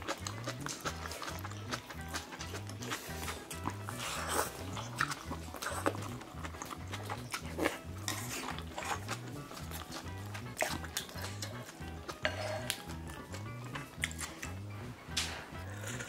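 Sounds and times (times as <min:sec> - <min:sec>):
background music with bass line: 0:00.0 - 0:16.0
chewing with mouth clicks: 0:00.0 - 0:16.0.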